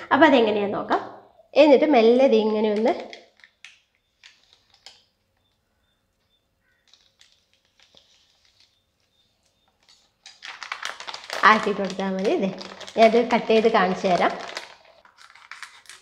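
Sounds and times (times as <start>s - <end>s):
plastic crinkling: 2.6s - 16.0s.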